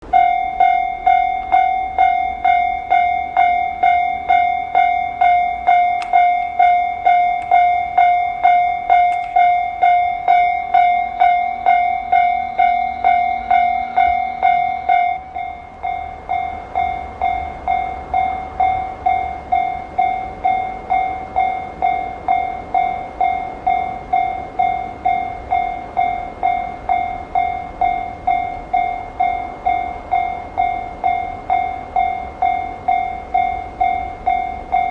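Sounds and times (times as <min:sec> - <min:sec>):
level-crossing alarm ringing: 0:00.0 - 0:34.9.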